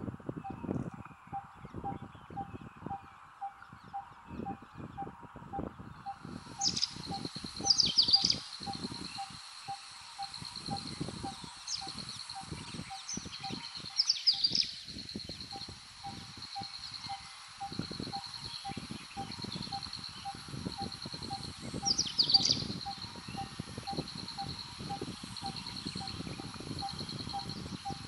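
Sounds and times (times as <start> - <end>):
insect drone: 1.2 - 28.0.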